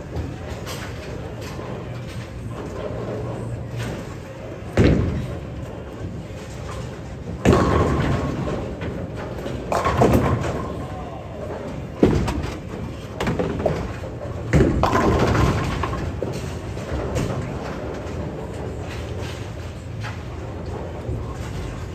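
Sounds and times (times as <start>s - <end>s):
bowling balls rolling: 0.0s - 21.9s
bowling balls crashing into pins: 0.1s - 5.8s, 6.4s - 21.9s.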